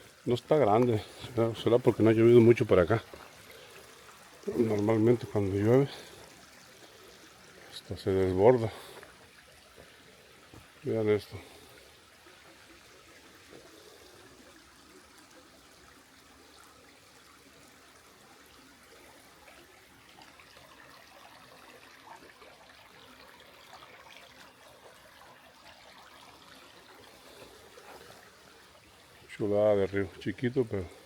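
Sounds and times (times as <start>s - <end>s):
creek trickling: 0.0s - 31.0s.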